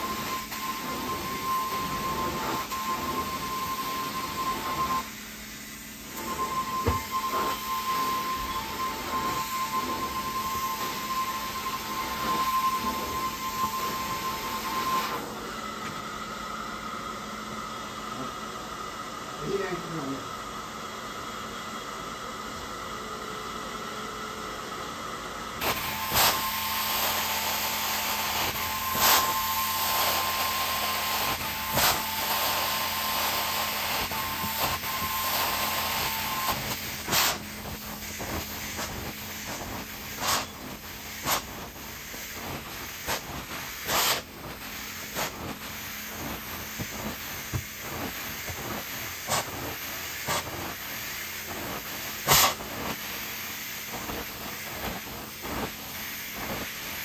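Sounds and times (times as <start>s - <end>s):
carpet cleaner spray and suction: 0.0s - 18.4s, 25.5s - 57.0s.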